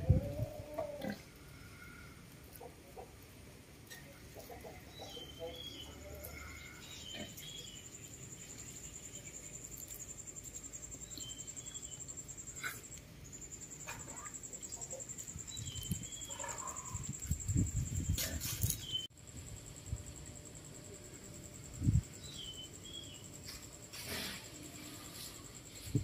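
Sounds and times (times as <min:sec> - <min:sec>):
pulsing insect trill: 0:05.0 - 0:26.0.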